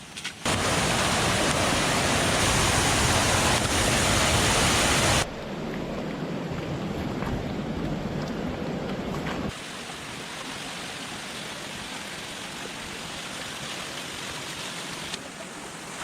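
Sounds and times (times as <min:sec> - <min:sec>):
dull rush of water: 0:00.4 - 0:16.0
loud rush of water: 0:00.4 - 0:16.0.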